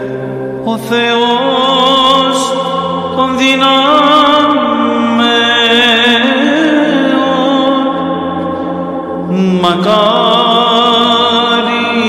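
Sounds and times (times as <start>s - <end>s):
steady low drone: 0.0s - 12.0s
voice chanting melismatic line: 0.0s - 12.0s.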